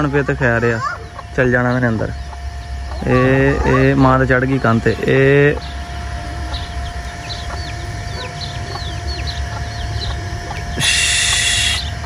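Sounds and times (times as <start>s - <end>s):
chicks peeping: 0.0s - 12.0s
faint steady hum: 0.0s - 12.0s.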